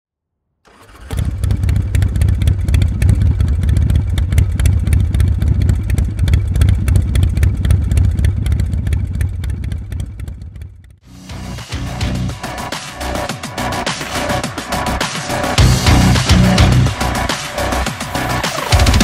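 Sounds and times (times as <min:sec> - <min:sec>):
motorcycle engine running: 0:00.7 - 0:19.0.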